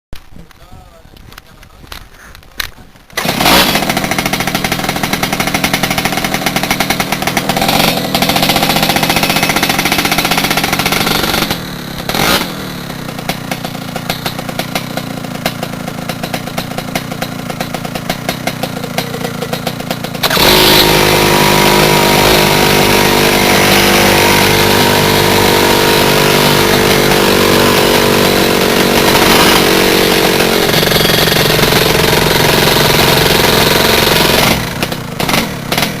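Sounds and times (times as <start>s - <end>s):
kart engine running: 2.6s - 36.0s.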